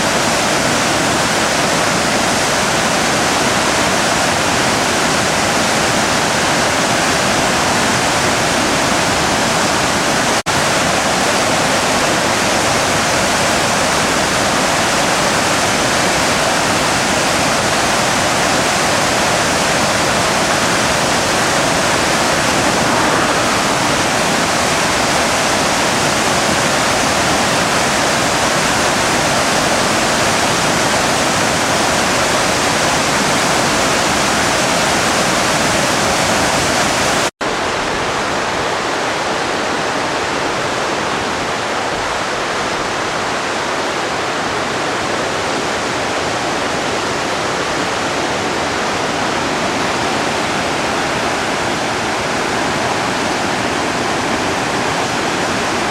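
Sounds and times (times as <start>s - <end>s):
flooded river rushing: 0.0s - 55.9s.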